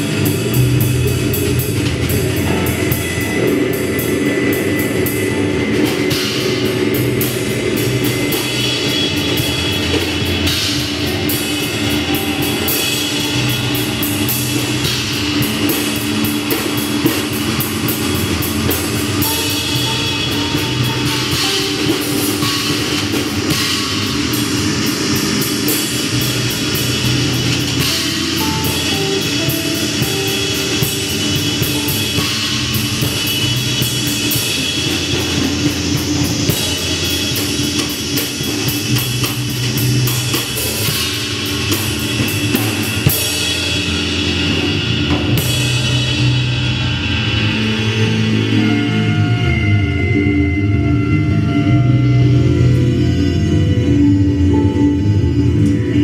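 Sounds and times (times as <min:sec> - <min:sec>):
drum and cymbal hits: 0:00.0 - 0:50.6
bass guitar: 0:00.0 - 0:56.0
distorted electric guitar: 0:00.0 - 0:56.0.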